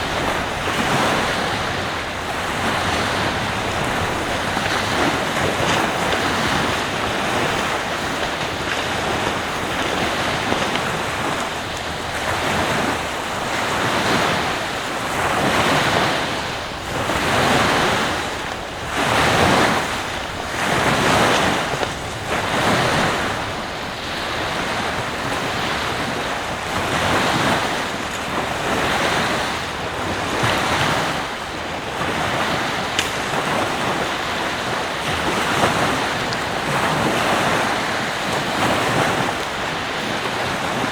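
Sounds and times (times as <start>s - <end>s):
surf breaking on beach: 0.0s - 40.9s
wind buffeting microphone: 0.0s - 40.9s.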